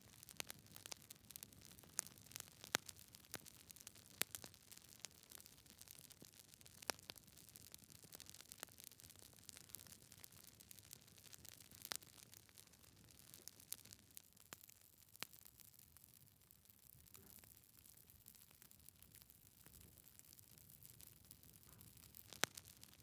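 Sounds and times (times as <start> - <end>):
wood fire crackling and popping: 0.0 - 16.8, 17.8 - 23.0.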